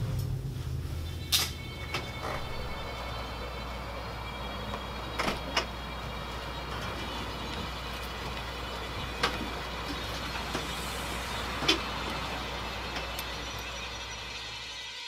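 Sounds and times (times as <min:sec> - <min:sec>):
low background hum: 0:00.0 - 0:14.8.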